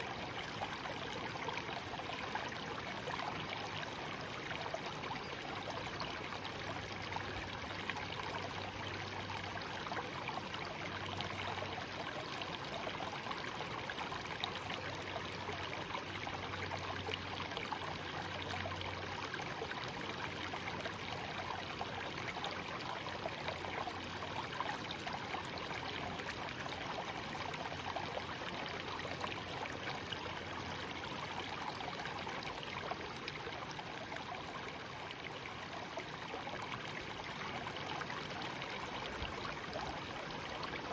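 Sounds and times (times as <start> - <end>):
shallow stream babbling: 0.0 - 40.9.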